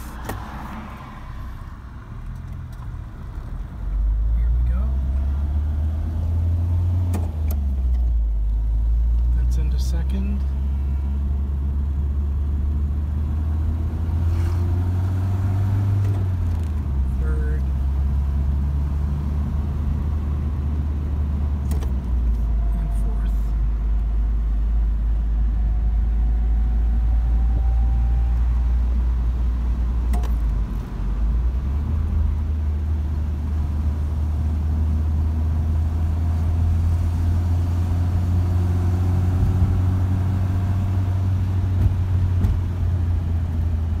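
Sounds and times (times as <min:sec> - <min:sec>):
car engine from inside cabin: 0:00.0 - 0:44.0
road noise: 0:00.0 - 0:44.0.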